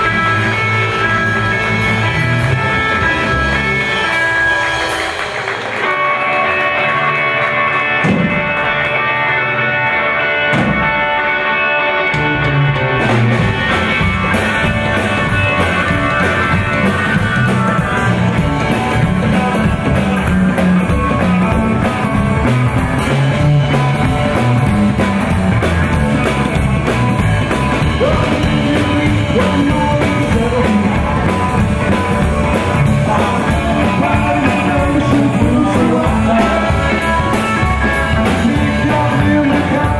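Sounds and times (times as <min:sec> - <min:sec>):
electric guitar: 0:00.0 - 0:39.9
rockabilly band playing: 0:00.0 - 0:39.9.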